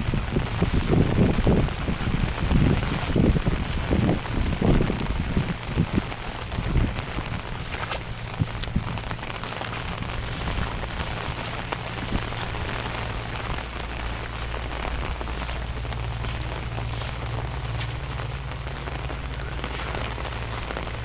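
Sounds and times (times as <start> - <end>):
low steady rumble: 0.0 - 21.0
steady rain falling: 0.0 - 21.0.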